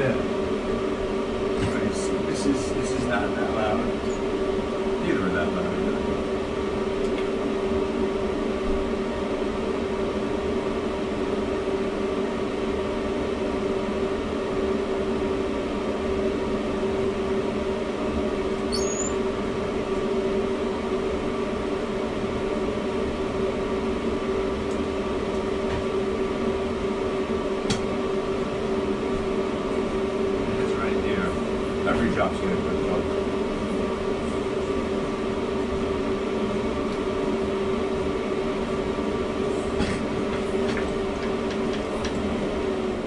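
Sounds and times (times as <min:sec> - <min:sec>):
blower humming: 0:00.0 - 0:43.0
blower rushing air: 0:00.0 - 0:43.0.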